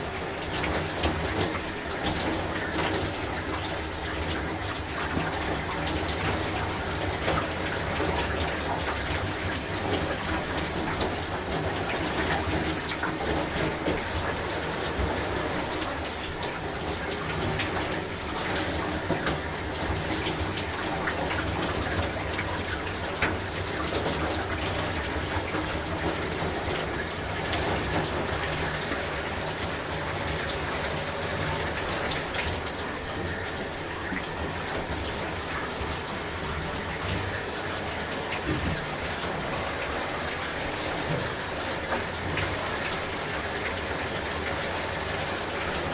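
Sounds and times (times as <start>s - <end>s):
shower water spraying: 0.0s - 45.9s.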